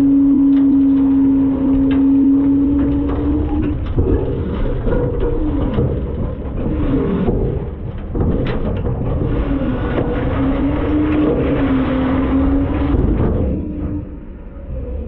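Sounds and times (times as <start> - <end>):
garbage truck engine drone: 0.0 - 15.0
hopper knocks and rattles: 0.4 - 14.2.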